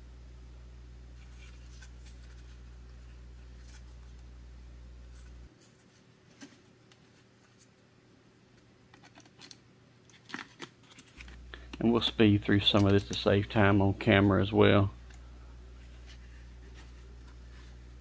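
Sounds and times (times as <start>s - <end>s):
steady low hum: 0.0s - 9.0s, 10.8s - 18.0s.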